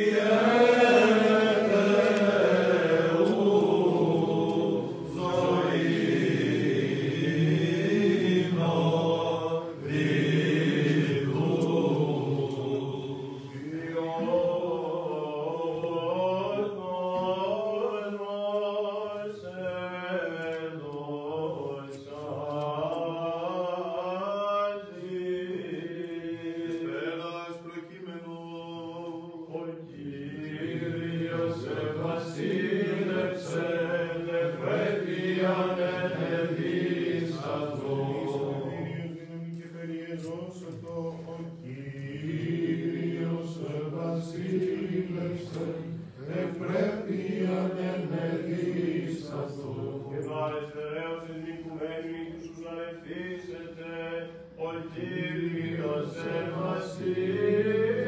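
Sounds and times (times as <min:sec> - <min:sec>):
person chanting a slow melody: 0:00.0 - 0:58.0.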